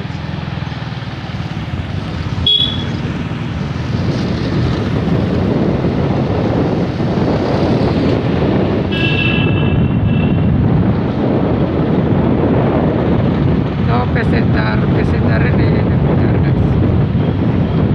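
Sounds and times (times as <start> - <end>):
motorbike road noise: 0.0 - 17.9
wind rushing over microphone: 0.0 - 17.9.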